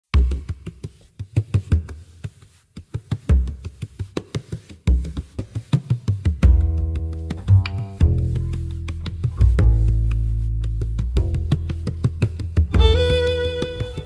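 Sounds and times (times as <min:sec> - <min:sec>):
percussion beat with deep bass: 0:00.1 - 0:14.0.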